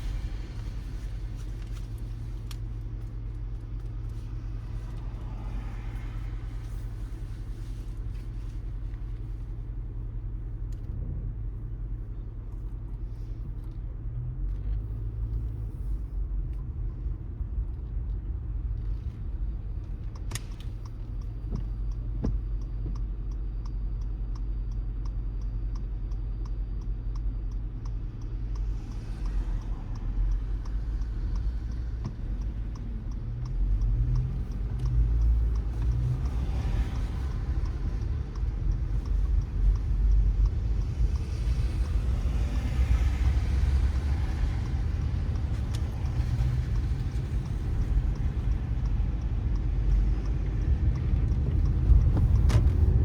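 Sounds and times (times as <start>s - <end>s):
car driving on wet road: 0.0s - 23.0s, 27.9s - 53.0s.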